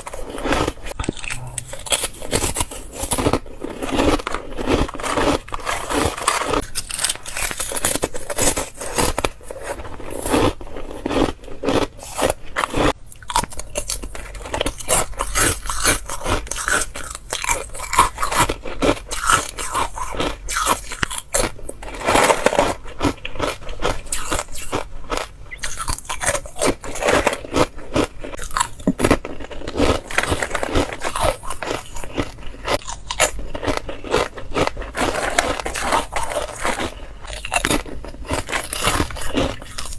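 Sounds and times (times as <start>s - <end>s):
biting and crunching ice: 0.0s - 39.9s.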